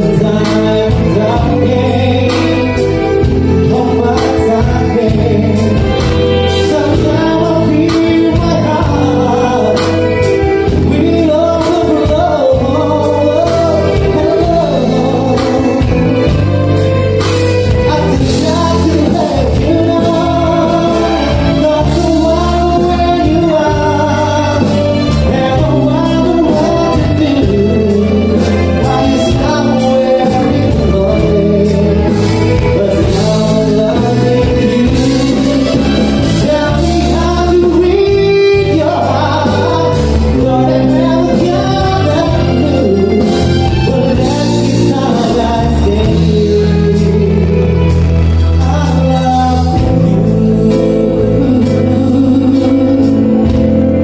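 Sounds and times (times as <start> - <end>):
live band playing: 0.0 - 54.0
person singing lead vocal: 0.0 - 54.0.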